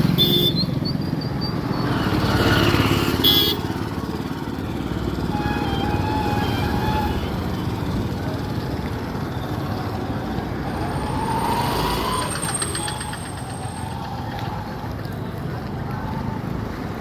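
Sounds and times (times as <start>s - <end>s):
vehicle and road rumble: 0.0s - 17.0s.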